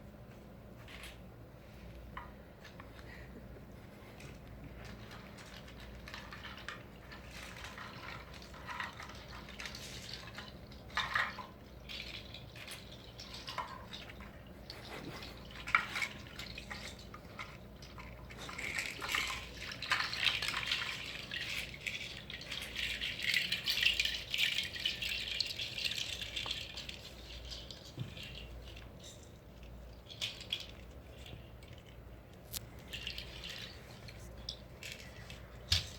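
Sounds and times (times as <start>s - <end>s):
small ticks and drips: 4.1s - 35.9s.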